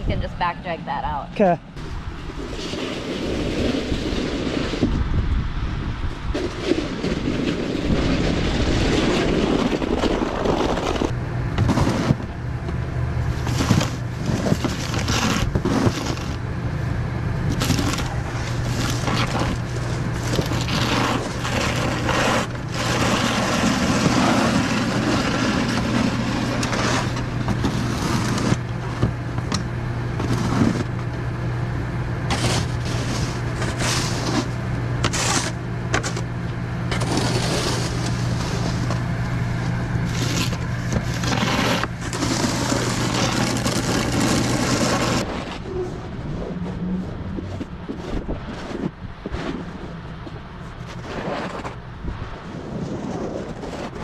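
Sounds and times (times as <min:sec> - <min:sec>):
snow shovel scraping slush: 0:02.2 - 0:04.9, 0:06.4 - 0:12.3, 0:13.2 - 0:29.0, 0:30.2 - 0:30.9, 0:32.3 - 0:36.3, 0:36.9 - 0:39.0, 0:40.0 - 0:49.8, 0:50.8 - 0:51.8, 0:52.4 - 0:54.0
skid steer engine running: 0:06.1 - 0:51.0.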